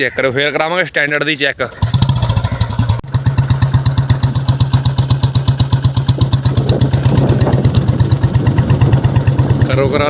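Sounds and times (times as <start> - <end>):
motorcycle engine idling: 1.6 - 10.0.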